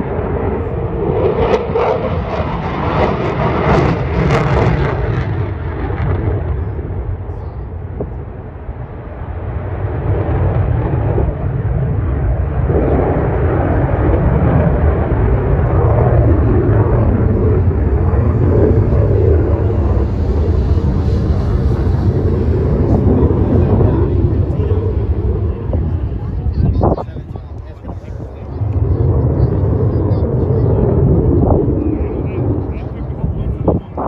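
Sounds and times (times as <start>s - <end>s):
fighter jet engine roar: 0.0s - 34.0s.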